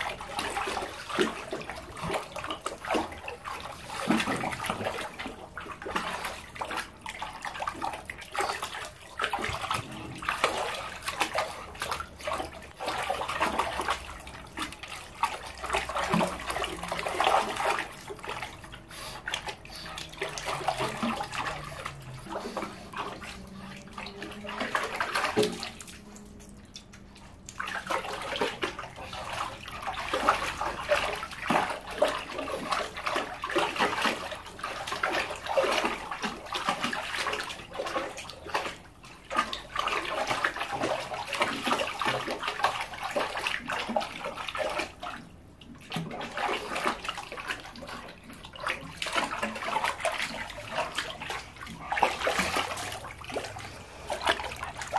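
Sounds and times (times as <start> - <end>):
dog splashing water in pool: 0.0 - 54.9.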